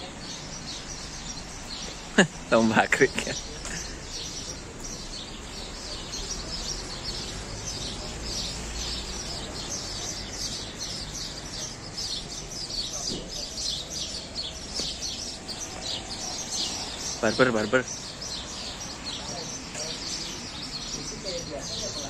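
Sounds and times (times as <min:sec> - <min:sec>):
flock of small birds chirping: 0:00.0 - 0:22.0.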